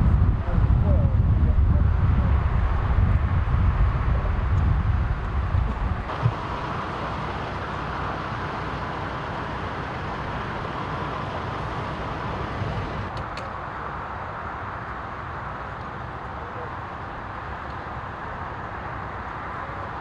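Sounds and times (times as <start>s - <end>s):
road traffic noise: 0.0s - 20.0s
wind rumbling on microphone: 0.0s - 20.0s.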